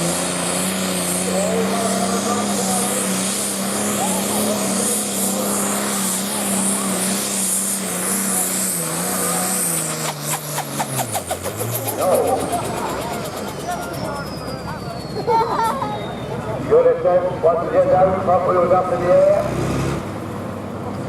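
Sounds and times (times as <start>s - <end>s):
diesel tractor engine under full load: 0.0s - 21.0s.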